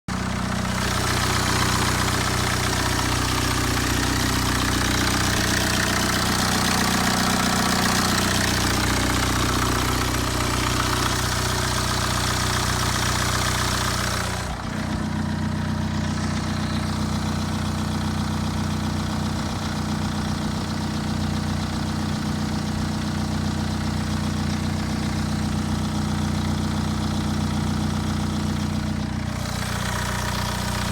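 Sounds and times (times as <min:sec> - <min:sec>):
diesel engine idling: 0:00.1 - 0:30.9
engine hiss: 0:00.2 - 0:20.9, 0:26.1 - 0:30.9.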